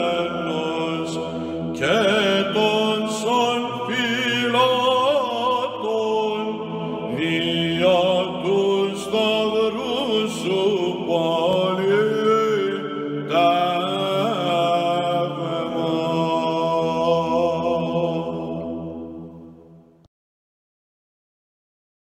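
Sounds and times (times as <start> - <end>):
low drone: 0.0 - 20.1
slow chanting voices: 0.0 - 20.1.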